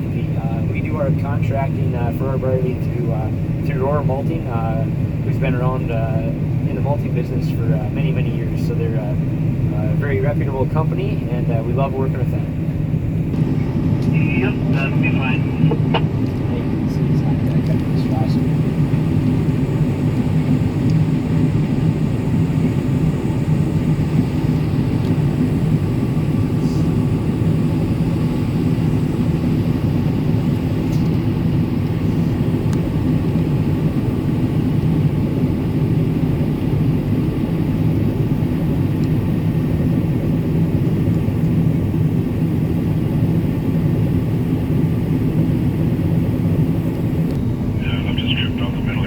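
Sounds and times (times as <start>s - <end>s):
combine harvester engine drone: 0.0s - 49.0s.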